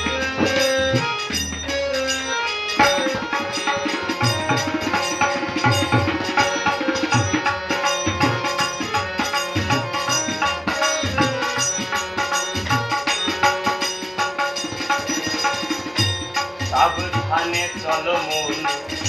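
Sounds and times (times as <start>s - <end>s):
tabla fast rhythm: 0.0s - 19.0s.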